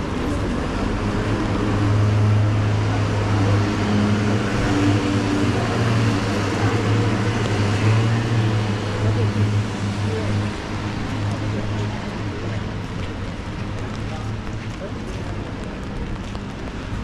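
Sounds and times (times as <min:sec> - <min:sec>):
traffic engine hum: 0:00.0 - 0:17.0
tyres on wet road: 0:00.0 - 0:17.0.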